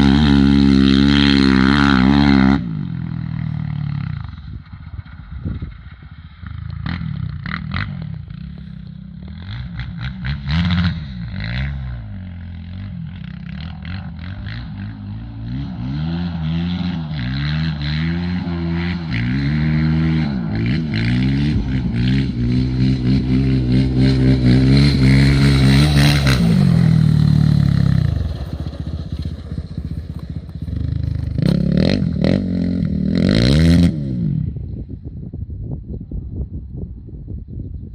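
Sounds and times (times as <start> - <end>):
quad engine revving: 0.0 - 4.5, 6.7 - 34.6.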